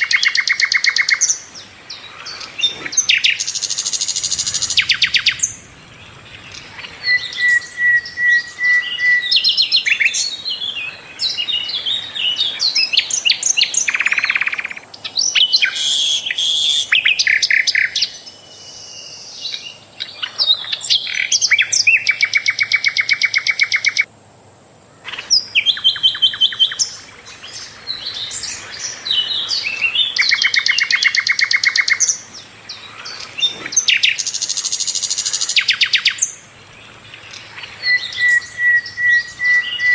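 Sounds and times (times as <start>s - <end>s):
flycatcher singing: 0.0s - 24.1s, 25.1s - 39.9s.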